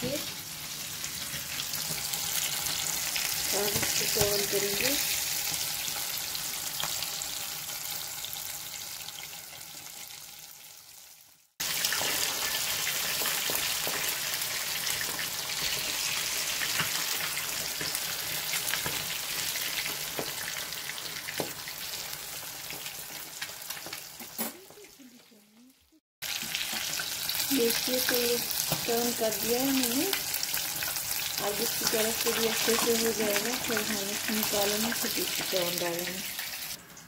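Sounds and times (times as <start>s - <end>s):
fish sizzling in oil: 0.0s - 24.9s, 26.2s - 37.0s.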